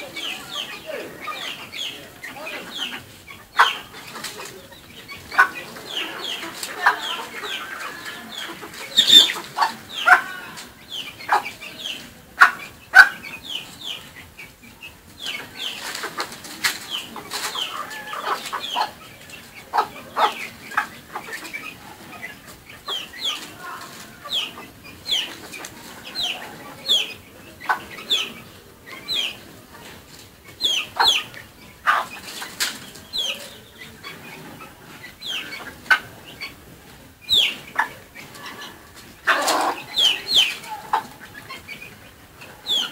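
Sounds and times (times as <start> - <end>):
chickens clucking and peeping: 0.0 - 42.9.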